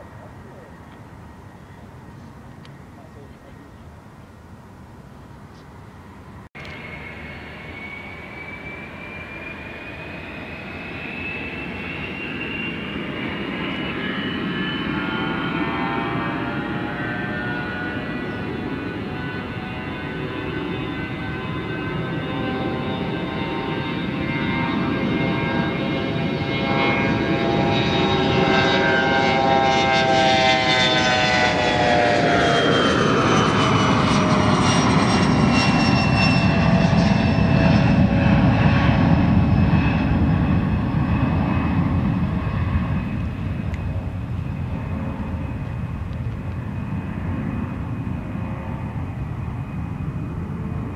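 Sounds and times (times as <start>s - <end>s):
jet engine whine: 0.0s - 50.9s
deep jet rumble: 5.8s - 50.9s.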